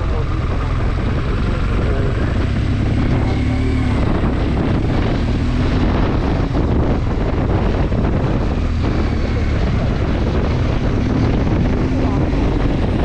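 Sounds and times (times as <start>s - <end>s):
motorcycle engine rumbling: 0.0s - 13.0s
wind noise on microphone: 0.0s - 13.0s.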